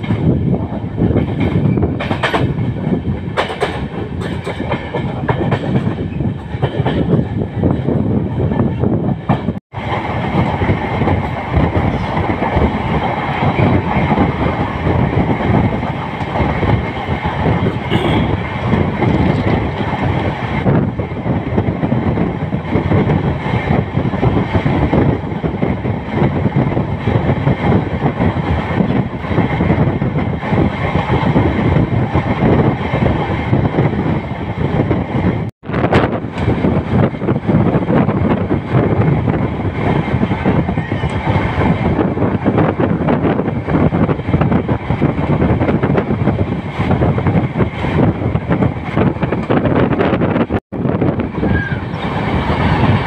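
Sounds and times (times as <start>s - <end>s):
train running at speed: 0.0s - 53.0s
wind buffeting microphone: 0.0s - 53.0s.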